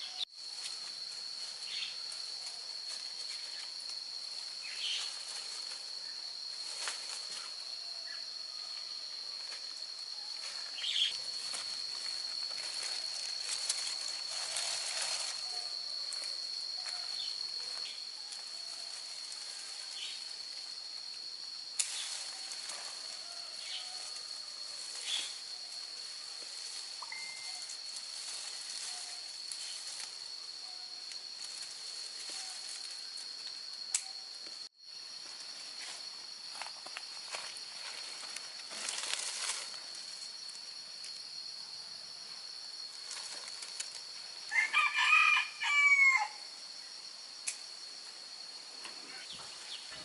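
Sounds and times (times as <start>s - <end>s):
high-pitched insect drone: 0.0s - 50.0s.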